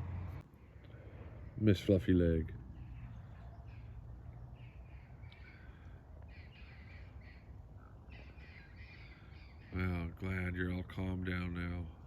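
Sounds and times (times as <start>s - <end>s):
faint birds calling: 0.0s - 12.0s
low steady outdoor rumble: 0.0s - 12.0s.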